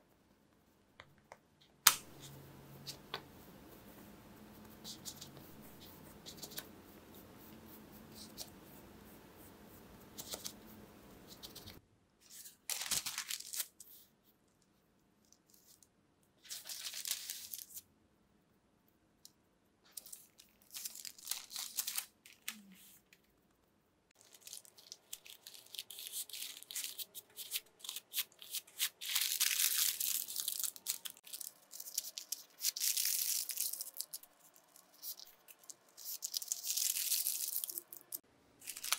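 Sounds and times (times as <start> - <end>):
parchment paper crinkling: 1.8 - 14.1, 16.4 - 17.8, 19.9 - 23.4, 24.2 - 38.9.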